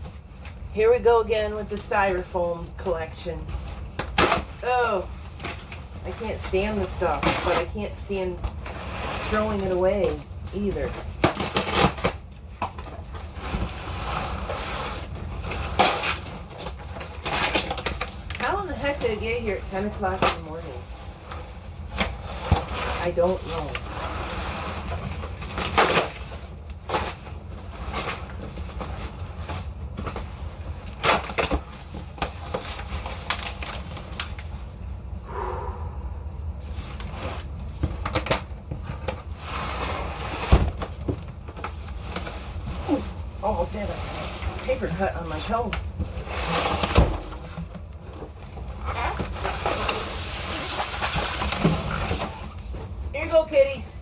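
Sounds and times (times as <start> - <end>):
cardboard and styrofoam rustling: 0.0 - 35.0, 36.6 - 54.0.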